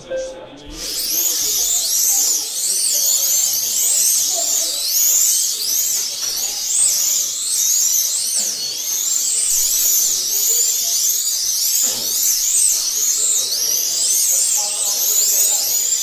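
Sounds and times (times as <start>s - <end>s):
slot car motors whining: 0.7s - 16.0s.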